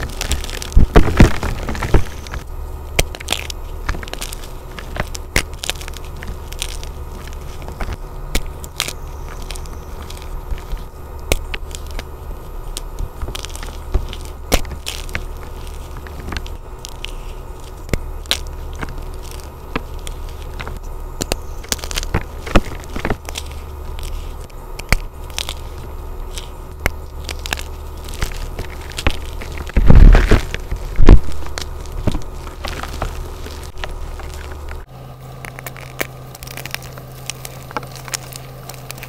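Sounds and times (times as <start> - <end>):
chalk crackling and crunching: 0.0 - 39.0
steady low rumble: 0.0 - 39.0.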